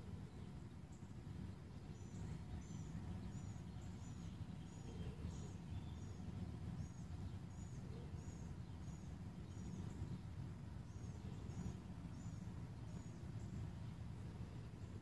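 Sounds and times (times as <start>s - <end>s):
low steady rumble: 0.0s - 15.0s
small bird chirping: 0.2s - 15.0s.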